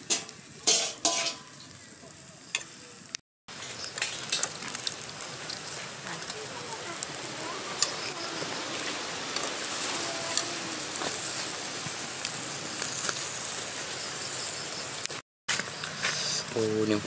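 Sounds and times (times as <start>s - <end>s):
meat sizzling on a grill: 0.0s - 17.0s.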